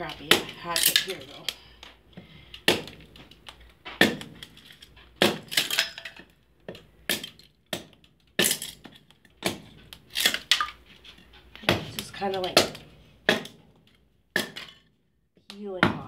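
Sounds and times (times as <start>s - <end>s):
hatchet splitting kindling: 0.0s - 14.9s.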